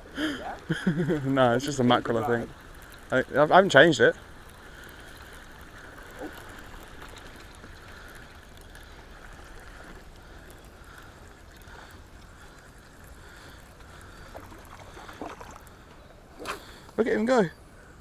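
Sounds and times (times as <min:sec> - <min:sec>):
wind and water rumble: 0:00.0 - 0:18.0
fishing reel whirring: 0:01.4 - 0:17.0.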